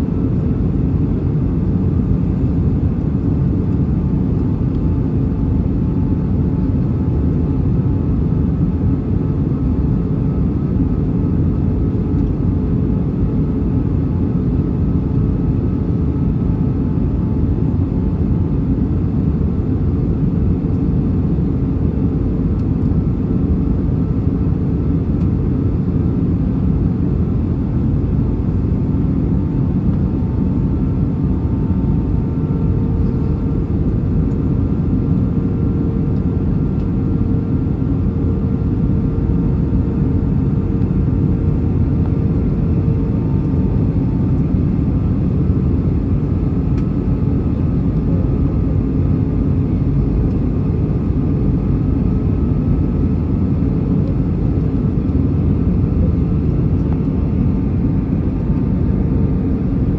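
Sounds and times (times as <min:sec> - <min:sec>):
airplane cabin roar: 0:00.0 - 0:59.9
faint hum tones: 0:00.0 - 0:59.9.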